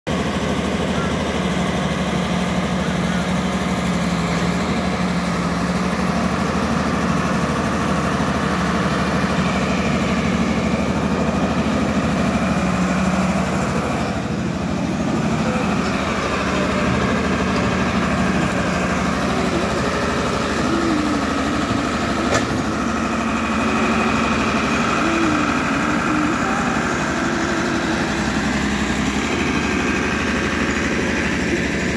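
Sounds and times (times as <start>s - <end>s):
excavator diesel engine running: 0.1s - 31.9s.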